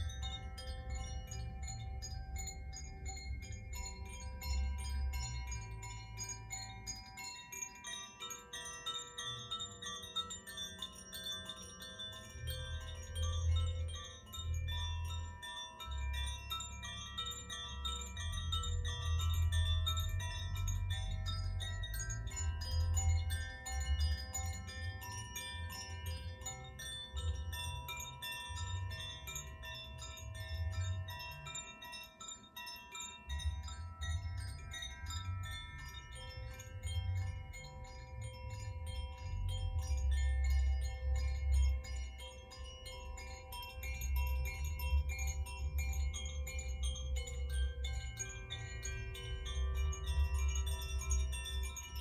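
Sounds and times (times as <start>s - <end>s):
chimes tinkling: 0.0s - 52.0s.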